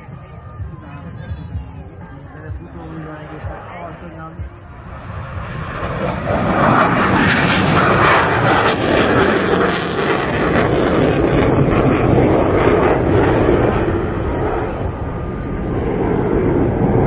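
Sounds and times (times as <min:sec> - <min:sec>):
airplane engine flying past: 0:00.0 - 0:17.0.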